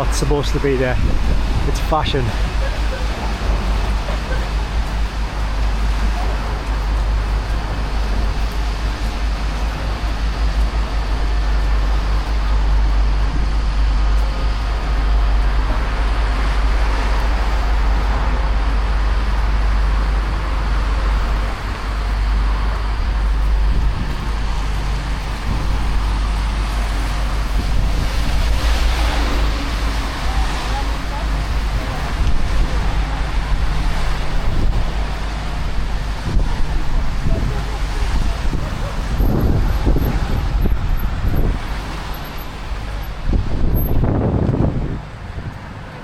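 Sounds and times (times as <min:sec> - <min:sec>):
cars passing close by: 0:00.0 - 0:46.0
constant low rumble: 0:00.0 - 0:46.0.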